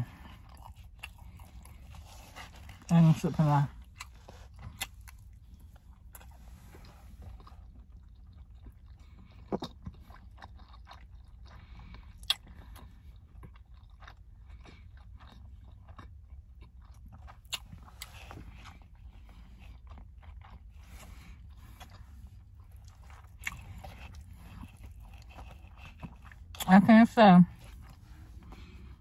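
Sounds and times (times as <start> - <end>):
person chewing food: 0.0 - 26.7, 27.5 - 29.0.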